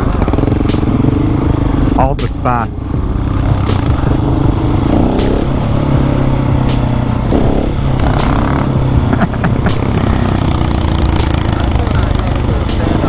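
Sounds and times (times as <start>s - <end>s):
motorcycle engine running: 0.0s - 13.0s
road noise: 0.0s - 13.0s
wind: 0.0s - 13.0s.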